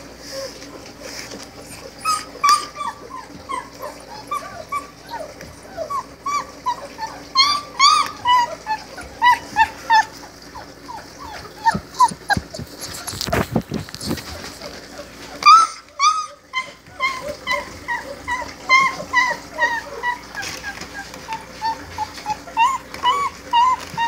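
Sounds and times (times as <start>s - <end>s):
puppies whimpering and squeaking: 0.0s - 24.0s.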